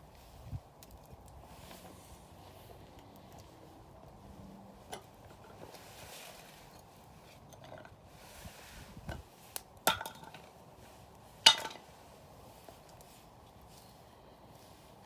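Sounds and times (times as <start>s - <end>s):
burning firewood popping: 0.0s - 15.0s
campfire crackling: 0.0s - 15.0s.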